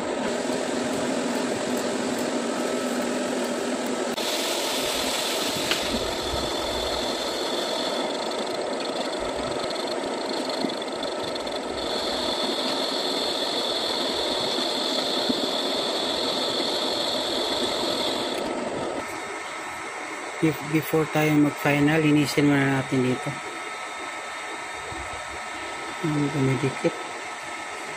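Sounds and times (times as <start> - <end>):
metal lathe running: 0.0 - 27.9
steady high-pitched tone: 4.1 - 27.9.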